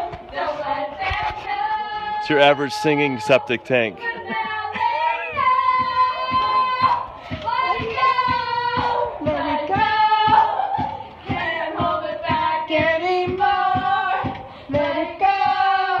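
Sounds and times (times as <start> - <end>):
two people singing in a tank: 0.0 - 16.0.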